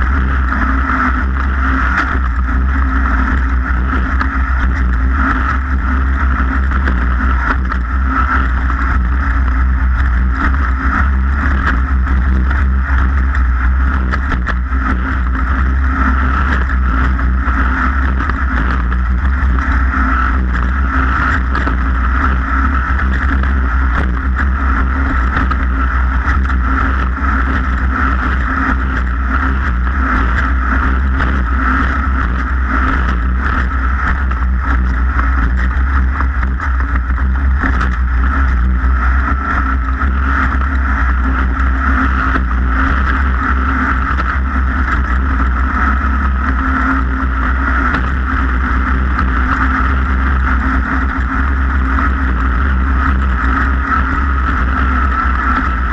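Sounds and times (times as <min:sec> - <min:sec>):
constant rush of noise: 0:00.0 - 0:55.9
race vehicle engine running: 0:00.0 - 0:55.9.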